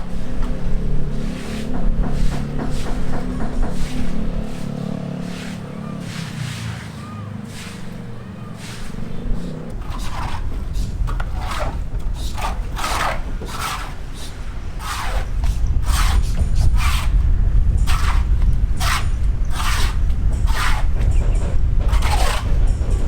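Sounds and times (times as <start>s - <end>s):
short scraping strokes: 1.1s - 17.2s, 17.8s - 23.0s.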